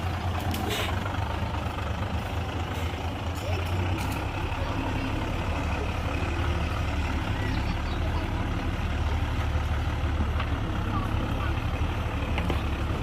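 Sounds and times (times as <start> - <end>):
heavy diesel engine rumble: 0.0 - 13.0.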